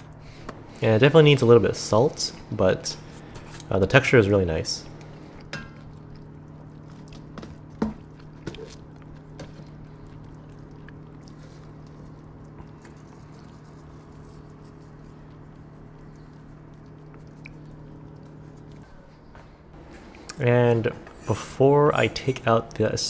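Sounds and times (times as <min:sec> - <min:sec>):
low appliance hum: 0:00.0 - 0:23.0.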